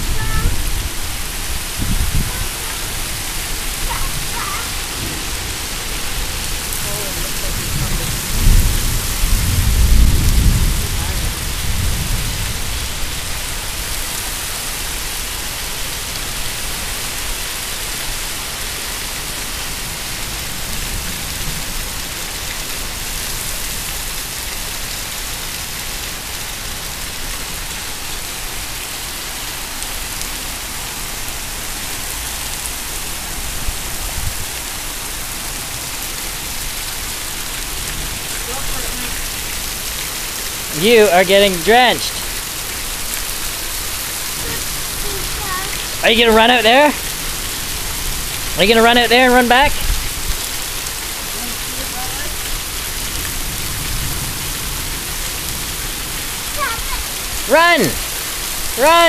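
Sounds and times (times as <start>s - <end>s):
heavy rain on asphalt: 0.0s - 59.0s.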